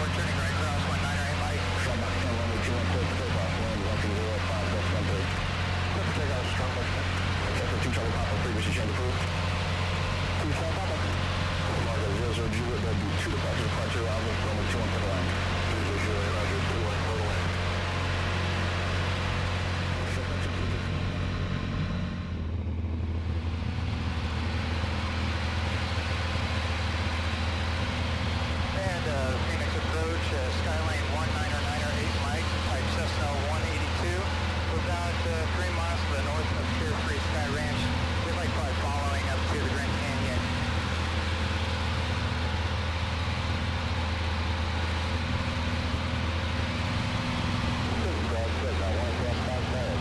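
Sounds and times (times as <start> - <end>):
propeller plane engine droning: 0.0 - 50.0.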